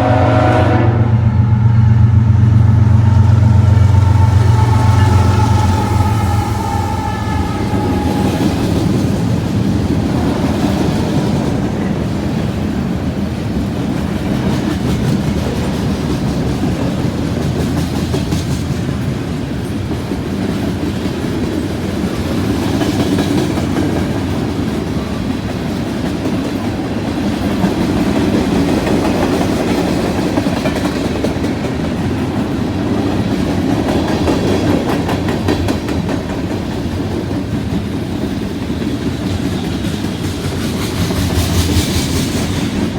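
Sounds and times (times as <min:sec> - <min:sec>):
freight train rumbling past: 0:00.0 - 0:42.9
wheels clacking over rails: 0:01.4 - 0:42.9.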